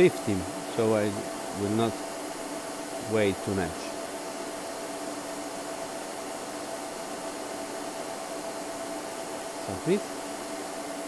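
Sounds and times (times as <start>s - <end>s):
fan hum and hiss: 0.0s - 11.0s.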